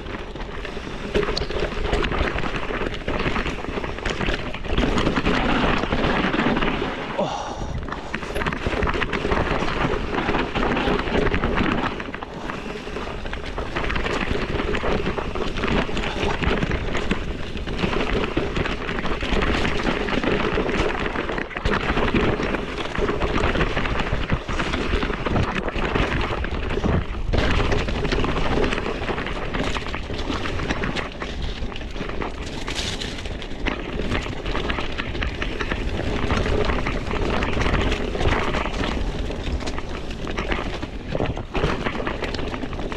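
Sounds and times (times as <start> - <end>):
bike rattling: 0.0 - 42.9
bike tyres rolling on dirt: 0.0 - 42.9.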